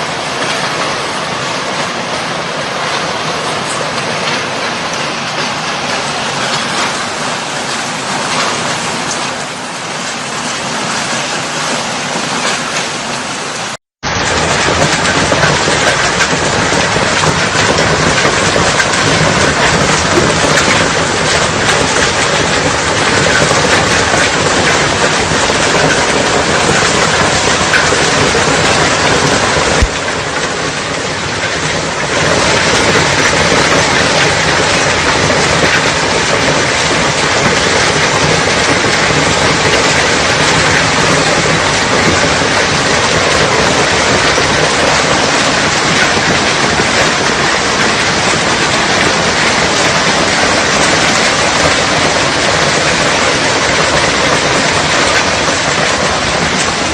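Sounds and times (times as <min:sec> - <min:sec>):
hail and rain pelting: 0:00.0 - 0:56.9.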